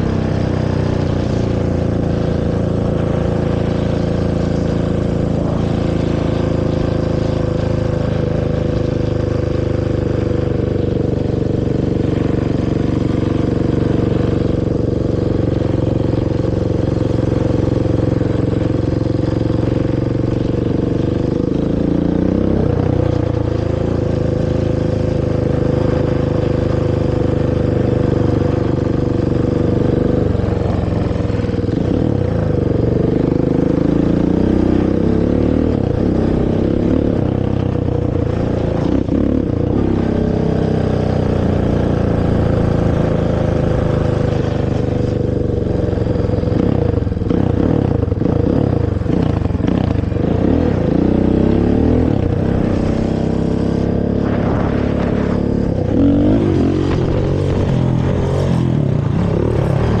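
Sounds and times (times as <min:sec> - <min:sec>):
quad engine revving: 0:00.0 - 1:00.0.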